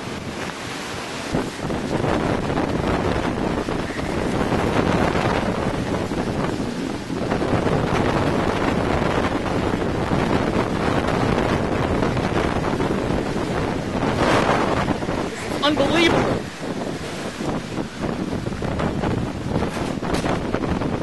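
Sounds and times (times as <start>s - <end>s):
strong wind buffeting microphone: 0.0s - 21.0s
wind-driven rain: 0.0s - 21.0s.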